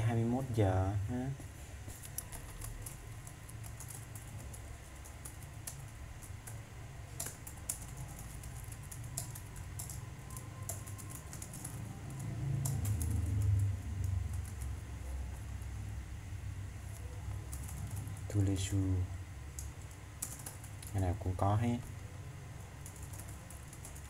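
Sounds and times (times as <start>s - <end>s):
computer keyboard typing: 1.9s - 15.8s, 16.8s - 24.0s.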